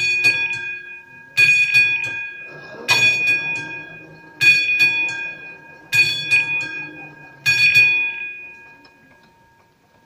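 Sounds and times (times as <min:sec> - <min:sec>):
level crossing warning bell: 0:00.0 - 0:10.0.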